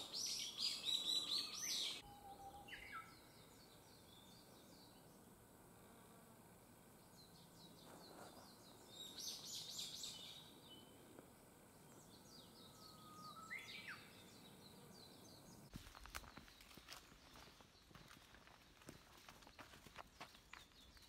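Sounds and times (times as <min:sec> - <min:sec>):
birds chirping: 0:00.0 - 0:05.3, 0:06.9 - 0:21.0.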